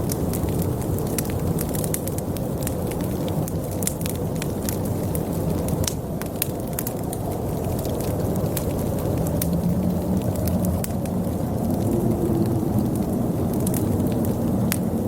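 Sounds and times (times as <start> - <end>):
blizzard wind rumbling: 0.0 - 15.0
wood fire crackling: 0.0 - 15.0.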